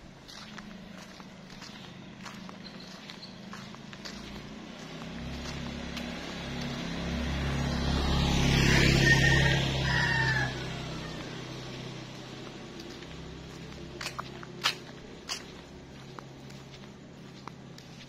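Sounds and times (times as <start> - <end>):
motorbike passing: 0.0 - 18.0.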